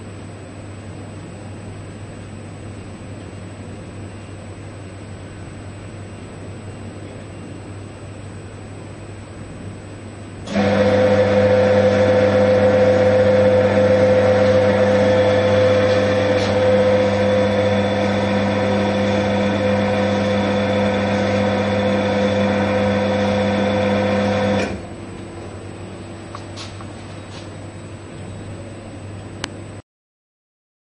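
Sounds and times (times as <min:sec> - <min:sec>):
conveyor belt motor humming: 0:00.0 - 0:29.8.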